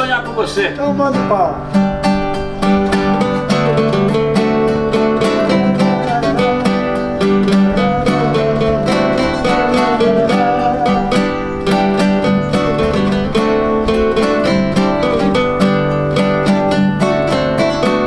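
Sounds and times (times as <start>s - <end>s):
acoustic guitar accompanying: 0.0s - 18.0s
classical guitar fingerpicking: 0.0s - 18.0s.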